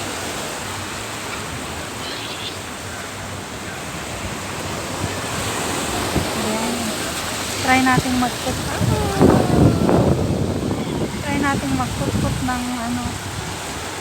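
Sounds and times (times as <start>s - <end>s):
sea waves washing on beach: 0.0s - 14.0s.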